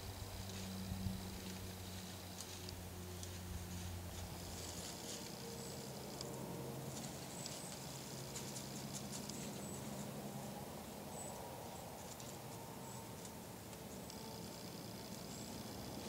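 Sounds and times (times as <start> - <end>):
rustling in dry leaves: 0.0 - 16.0.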